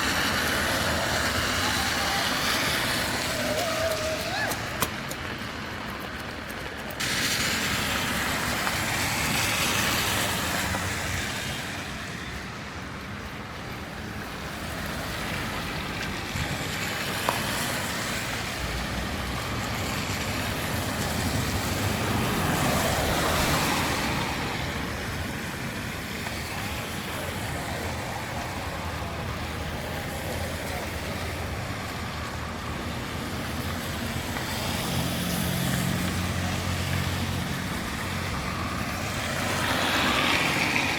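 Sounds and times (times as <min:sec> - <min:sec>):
vehicles passing on road: 0:00.0 - 0:40.9.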